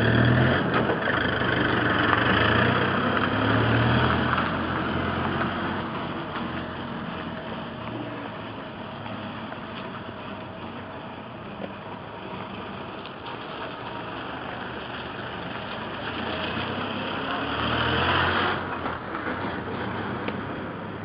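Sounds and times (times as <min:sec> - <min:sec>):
road traffic engines and tyres: 0:00.0 - 0:21.0.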